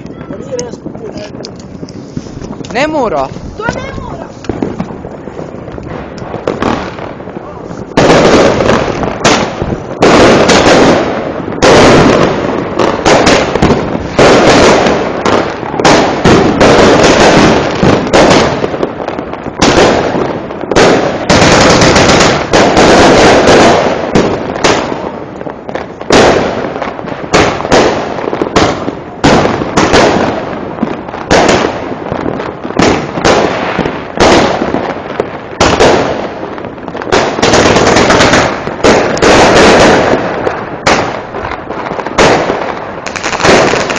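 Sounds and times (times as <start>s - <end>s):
firecrackers crackling: 0.0s - 43.9s
fireworks loud sharp bangs: 0.0s - 43.9s.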